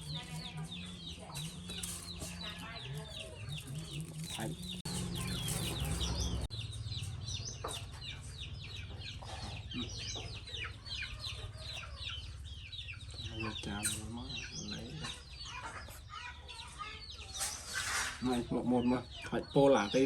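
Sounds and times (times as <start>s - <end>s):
many birds chirping: 0.0s - 20.0s.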